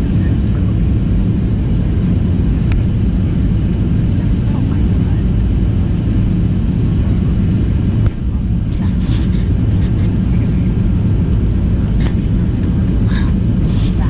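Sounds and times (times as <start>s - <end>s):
airplane cabin roar: 0.0s - 14.0s.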